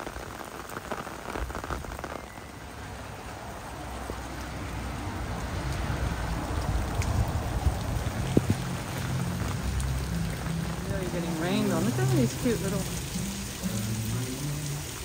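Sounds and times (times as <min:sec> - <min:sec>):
rain on cobbled street: 0:00.0 - 0:15.0.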